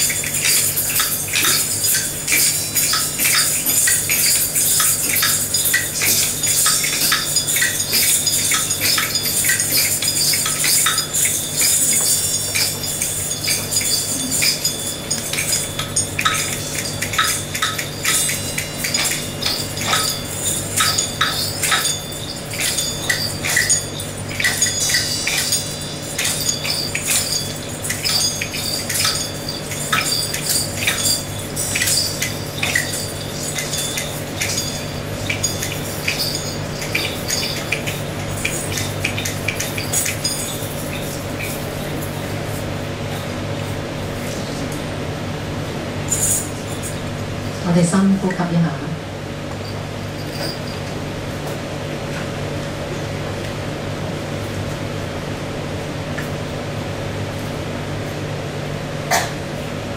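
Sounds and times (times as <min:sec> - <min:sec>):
hand percussion clinks and jingles: 0:00.0 - 0:44.6, 0:45.9 - 0:47.6, 0:49.4 - 0:52.1
steady low hum: 0:00.0 - 0:59.9.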